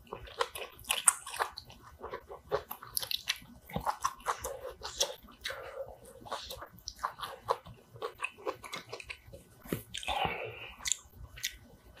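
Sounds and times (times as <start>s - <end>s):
chewing with wet mouth clicks: 0.0s - 11.7s.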